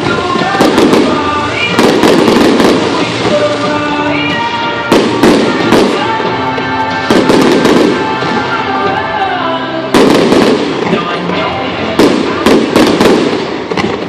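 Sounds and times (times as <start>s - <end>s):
music: 0.0s - 14.0s
firework shells bursting: 0.3s - 8.4s, 10.0s - 11.1s, 11.9s - 14.0s.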